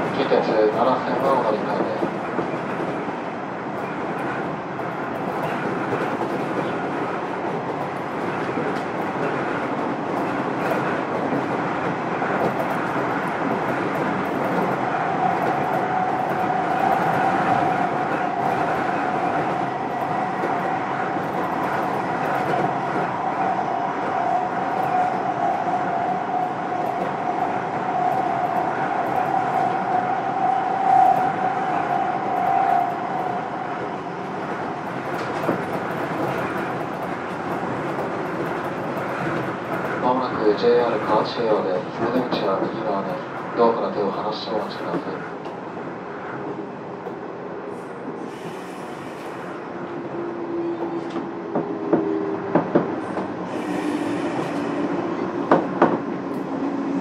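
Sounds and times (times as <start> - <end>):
train rolling noise: 0.0 - 57.0.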